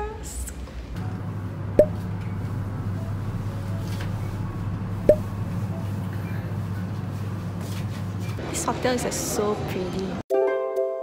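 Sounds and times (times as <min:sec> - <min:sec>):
lift car humming: 0:00.0 - 0:09.7.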